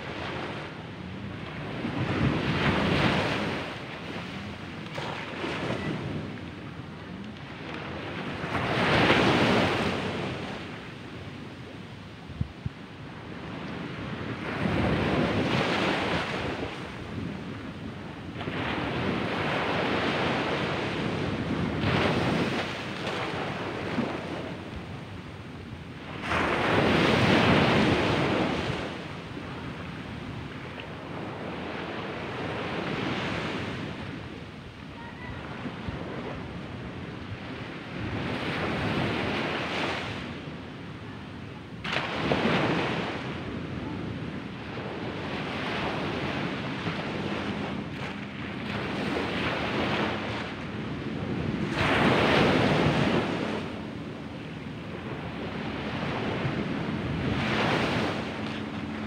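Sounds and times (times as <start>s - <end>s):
small ocean waves breaking on beach: 0.0s - 59.0s.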